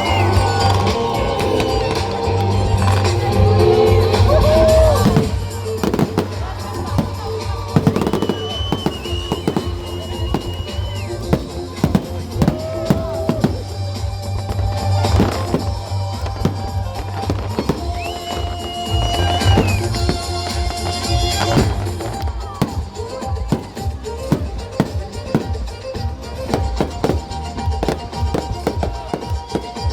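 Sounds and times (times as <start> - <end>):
fireworks bursting: 0.0 - 29.9
loud music with bass: 0.0 - 29.9.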